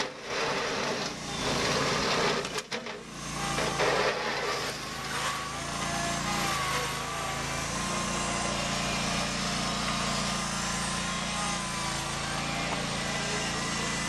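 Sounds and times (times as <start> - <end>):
small tractor engine running: 0.0 - 14.0.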